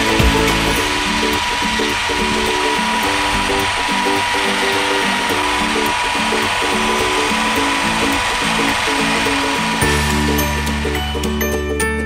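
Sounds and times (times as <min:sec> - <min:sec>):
background music: 0:00.0 - 0:12.0
drill motor whine: 0:00.0 - 0:12.0.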